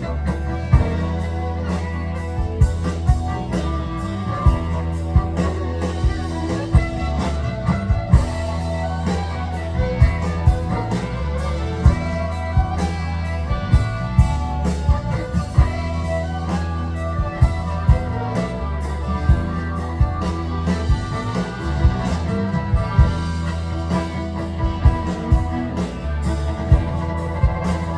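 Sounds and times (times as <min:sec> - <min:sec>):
drums struck: 0:00.0 - 0:27.9
electric guitar playing: 0:00.0 - 0:27.9
steady bass line: 0:00.0 - 0:27.9.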